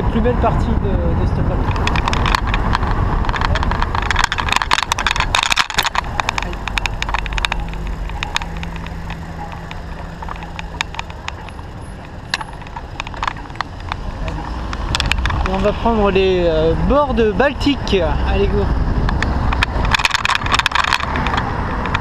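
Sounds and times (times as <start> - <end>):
car engine hum: 0.0 - 22.0
road and wind rumble: 0.0 - 22.0
bicycle rattling: 1.5 - 22.0.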